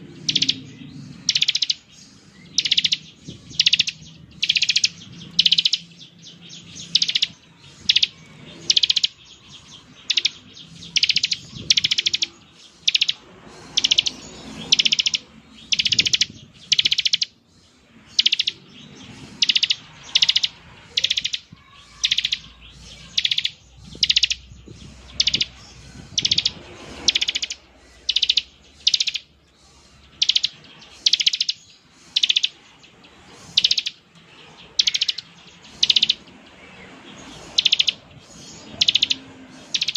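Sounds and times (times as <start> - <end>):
bird buzzy trills: 0.0 - 39.9.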